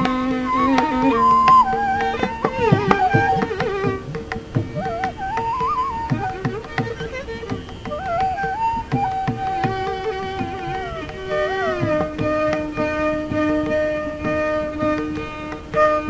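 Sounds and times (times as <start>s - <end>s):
hand drum strokes: 0.0s - 16.0s
ornamented melodic line: 0.0s - 16.0s.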